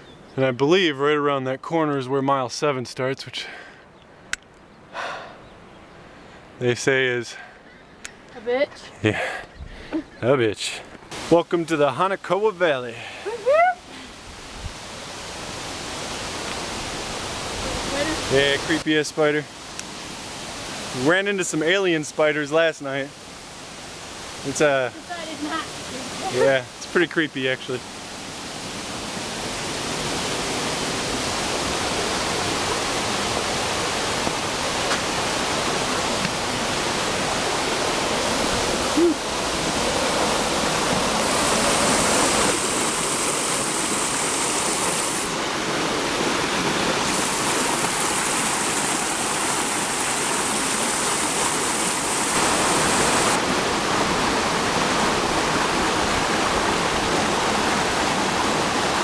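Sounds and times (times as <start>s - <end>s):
stream rushing over boulders: 10.8s - 59.0s.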